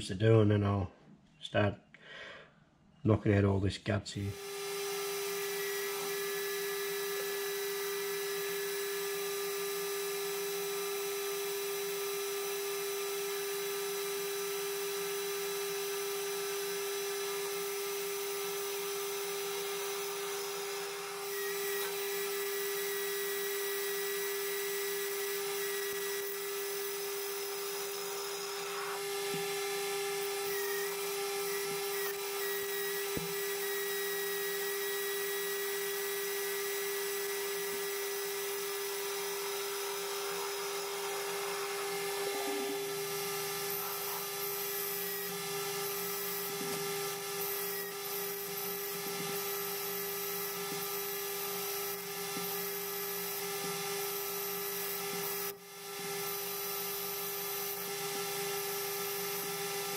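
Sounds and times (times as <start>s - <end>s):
metal lathe whining: 4.4s - 59.9s.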